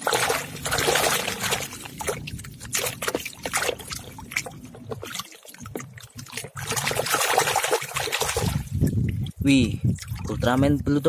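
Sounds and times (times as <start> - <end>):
water splashing in a basin: 0.0 - 11.0
water trickling: 0.0 - 11.0.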